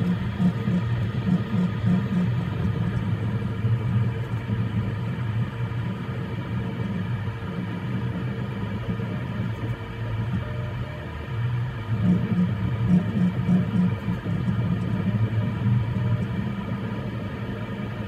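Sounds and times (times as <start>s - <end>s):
fans humming: 0.0s - 18.0s.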